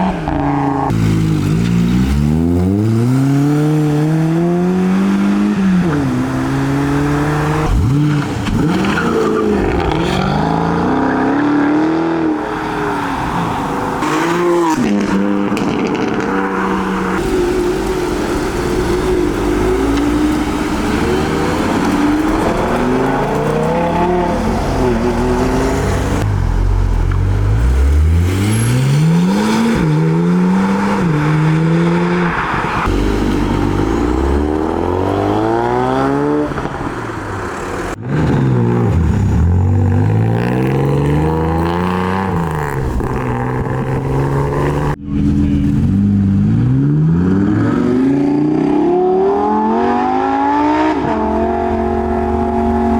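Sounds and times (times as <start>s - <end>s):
sports car engines revving: 0.0s - 52.9s.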